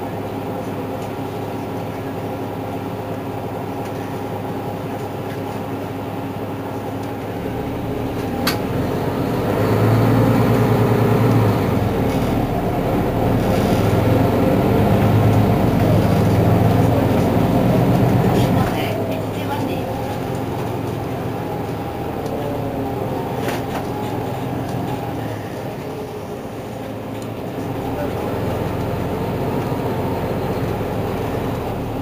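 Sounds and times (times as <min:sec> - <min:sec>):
bus diesel engine idling: 0:00.0 - 0:32.0.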